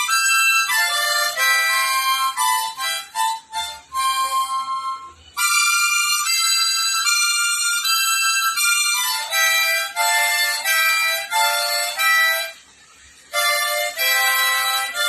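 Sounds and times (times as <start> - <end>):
harmonica playing chords: 0.0 - 15.0.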